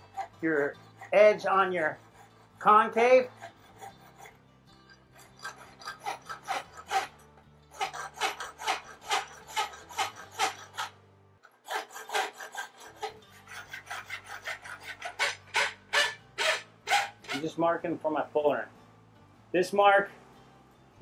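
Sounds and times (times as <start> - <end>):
rasp filing metal bar: 0.0 - 17.6.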